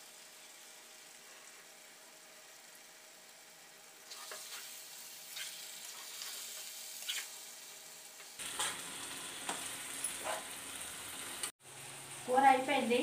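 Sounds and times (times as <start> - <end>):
curry sizzling in oil: 0.0 - 13.0.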